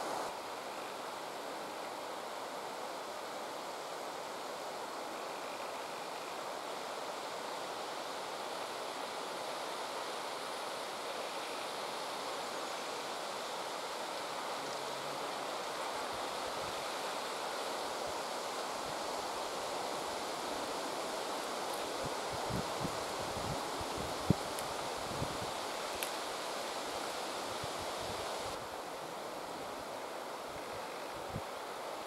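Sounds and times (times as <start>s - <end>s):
rushing outdoor ambience: 0.0s - 32.0s.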